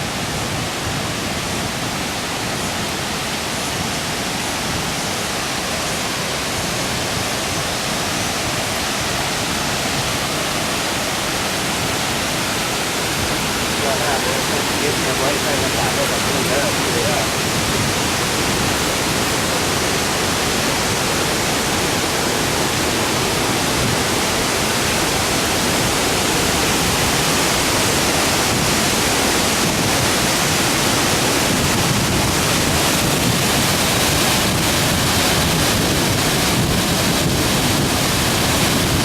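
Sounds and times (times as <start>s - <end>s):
waterfall pouring and splashing: 0.0s - 39.0s.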